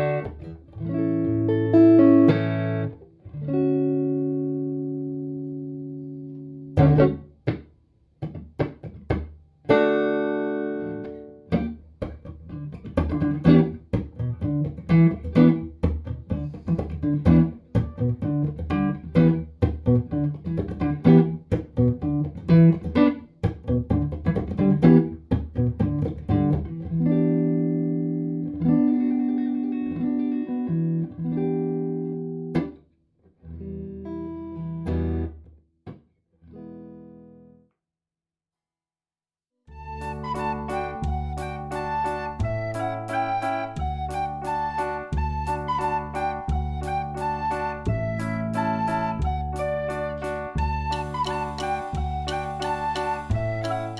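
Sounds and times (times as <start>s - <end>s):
clean electric guitar: 0.0s - 32.8s, 33.4s - 37.7s, 39.7s - 53.9s.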